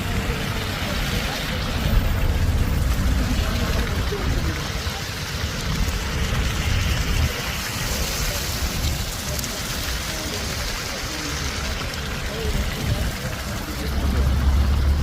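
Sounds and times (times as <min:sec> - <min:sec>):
wet snow hissing and pattering: 0:00.0 - 0:14.8.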